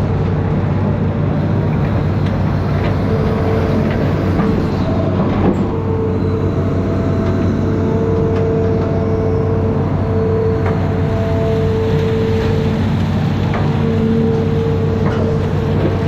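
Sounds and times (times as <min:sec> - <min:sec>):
diesel engine running: 0:00.0 - 0:16.0
steady whine: 0:00.0 - 0:16.0.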